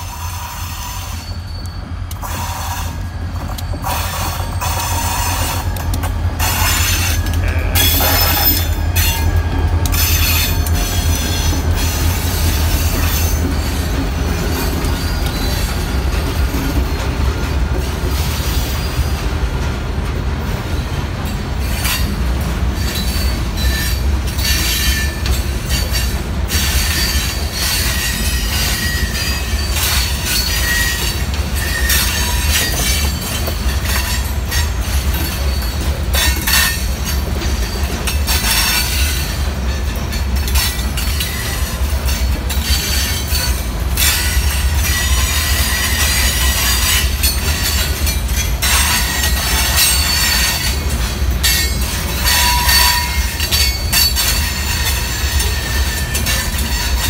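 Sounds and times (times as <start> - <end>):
high wheel squeals: 0.0 - 16.2, 22.8 - 57.0
freight train rumbling past: 0.0 - 57.0.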